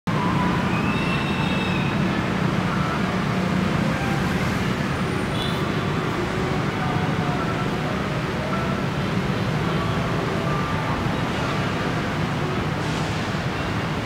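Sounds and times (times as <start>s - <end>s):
road traffic rumble: 0.1s - 14.0s.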